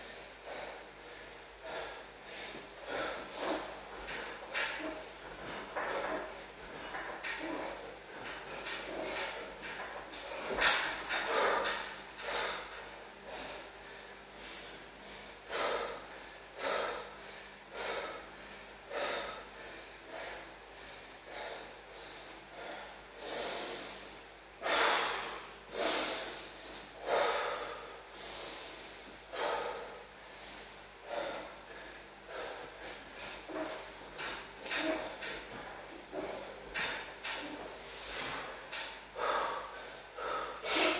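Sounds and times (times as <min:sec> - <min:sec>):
man breathing heavily: 0:00.0 - 0:40.9.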